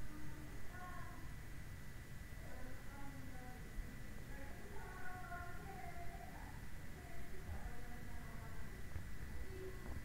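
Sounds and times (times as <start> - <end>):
low rumble and hiss: 0.0 - 10.0.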